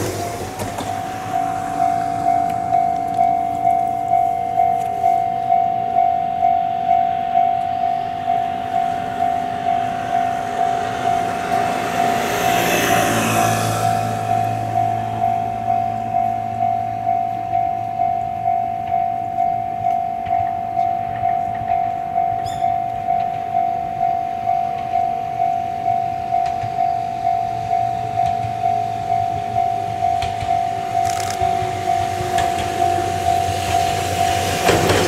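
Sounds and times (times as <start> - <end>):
electric train running: 0.0 - 35.0
level-crossing warning bell: 0.0 - 35.0.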